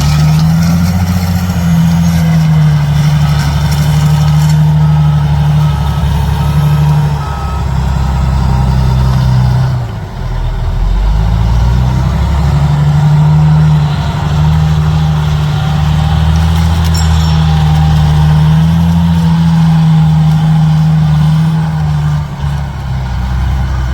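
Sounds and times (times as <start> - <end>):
large vehicle engine humming: 0.0 - 23.9.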